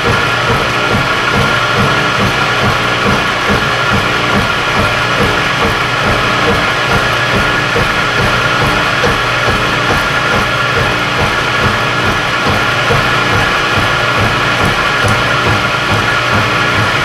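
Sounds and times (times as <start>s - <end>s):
milling machine cutting steel: 0.0s - 17.0s.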